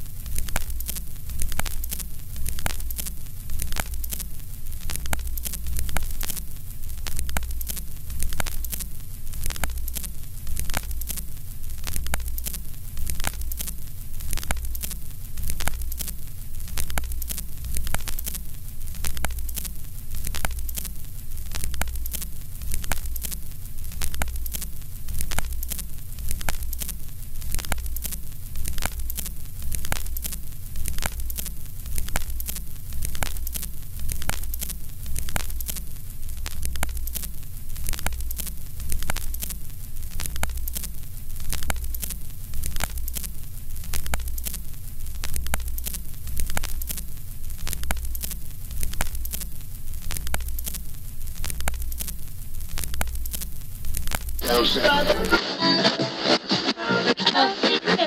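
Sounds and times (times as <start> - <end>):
crackling static with clicks: 0.0 - 58.0.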